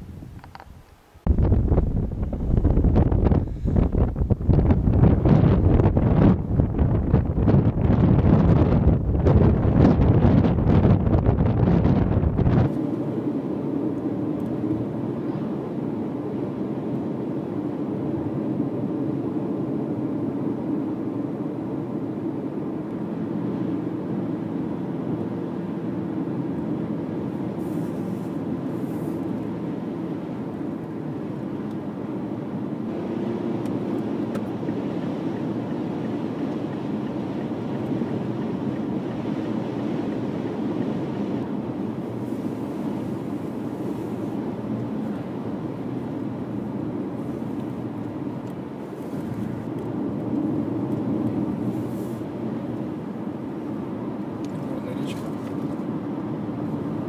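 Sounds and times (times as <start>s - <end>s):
car road and engine noise: 0.0s - 57.0s.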